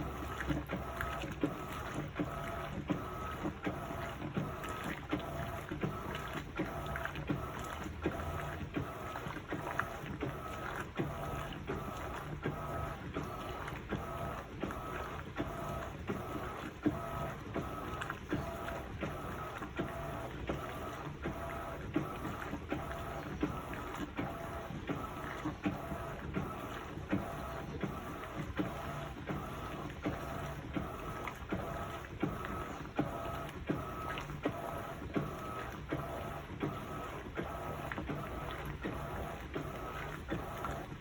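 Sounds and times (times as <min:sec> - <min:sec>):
washing machine motor humming: 0:00.0 - 0:41.0.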